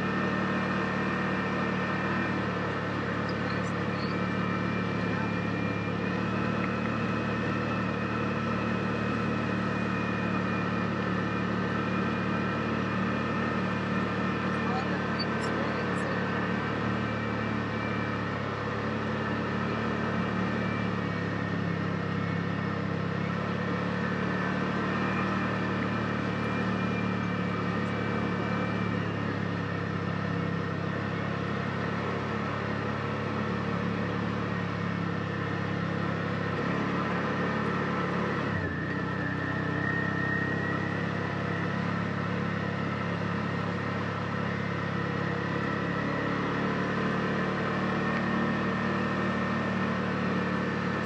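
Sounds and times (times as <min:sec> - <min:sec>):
utility vehicle engine running: 0:00.0 - 0:51.0.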